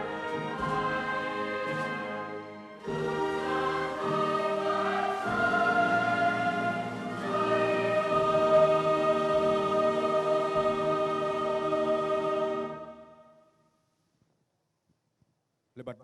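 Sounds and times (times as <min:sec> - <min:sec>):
orchestra playing: 0:00.0 - 0:13.0
choir singing: 0:00.0 - 0:13.4.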